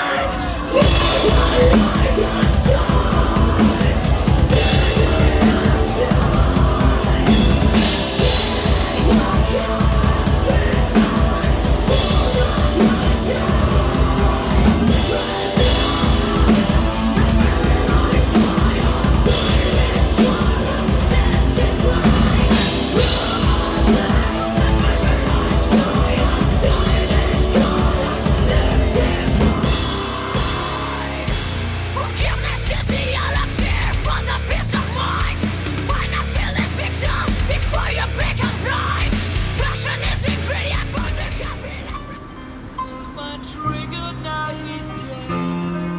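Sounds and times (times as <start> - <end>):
heavy metal band playing: 0.0 - 42.1
person singing: 0.0 - 45.9.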